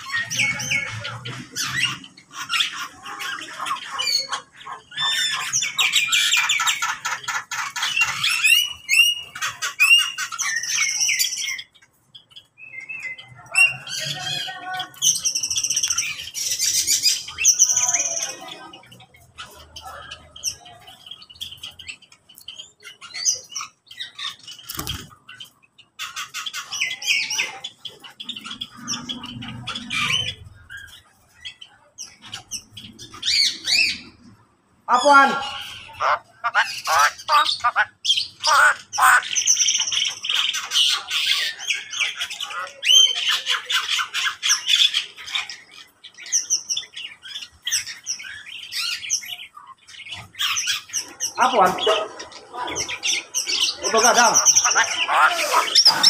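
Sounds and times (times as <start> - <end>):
birds chattering and whistling: 0.0 - 56.0.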